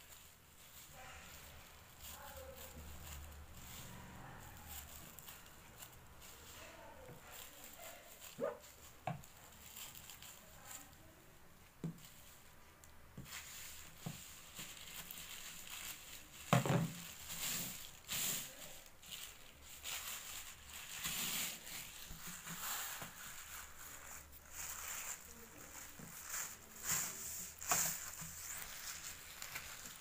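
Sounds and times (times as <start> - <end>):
plastic bag rustling: 0.0 - 30.0.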